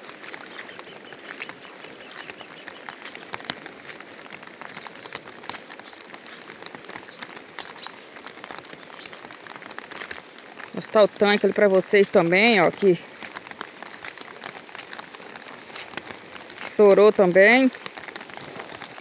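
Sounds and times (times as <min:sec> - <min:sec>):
light rain pattering: 0:00.0 - 0:19.0.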